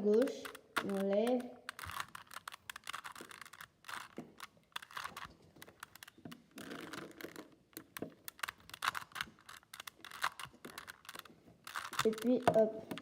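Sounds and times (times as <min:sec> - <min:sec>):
puzzle cube plastic clicking: 0:00.0 - 0:13.0.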